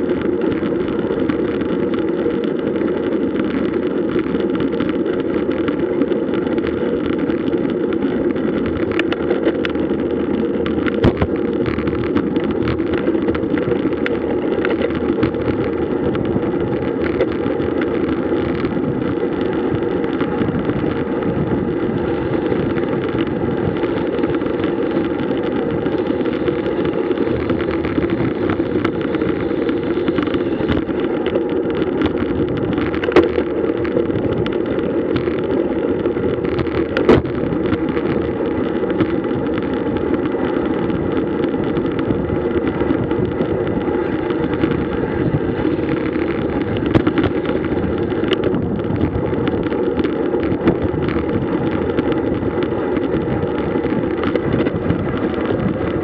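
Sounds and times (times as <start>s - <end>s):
rushing wind and road noise: 0.0s - 56.0s
small clicks and knocks: 0.1s - 21.1s, 22.2s - 56.0s.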